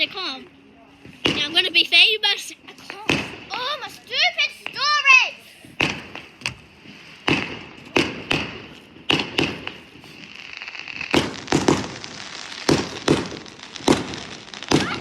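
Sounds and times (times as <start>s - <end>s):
fireworks bangs and pops: 1.0s - 15.0s.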